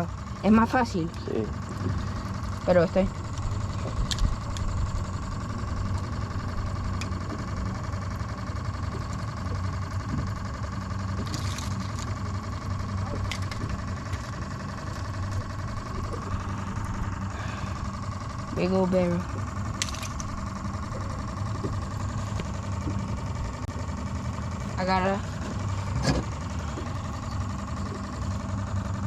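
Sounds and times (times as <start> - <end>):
boat motor humming and whining: 0.0 - 29.0.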